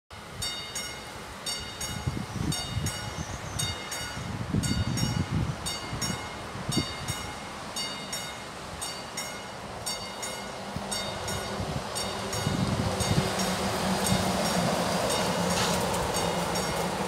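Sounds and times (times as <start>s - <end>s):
crossing bell ringing: 0.3s - 17.0s.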